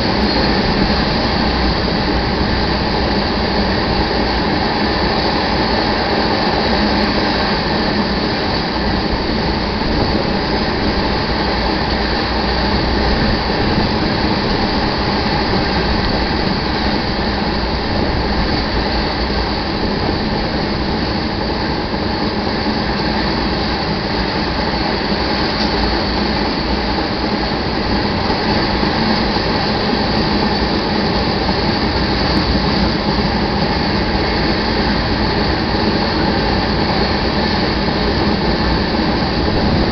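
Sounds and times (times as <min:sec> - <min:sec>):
train cars rolling on rail: 0:00.0 - 0:39.9.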